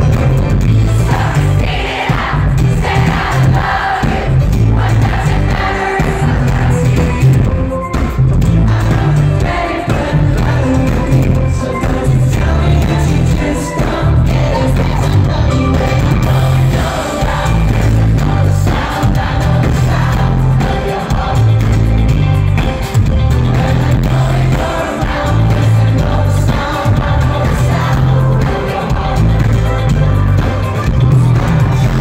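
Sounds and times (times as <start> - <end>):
heavy pulsing bass: 0.0 - 32.0
lead singer: 0.0 - 32.0
live pop-rock band: 0.0 - 32.0.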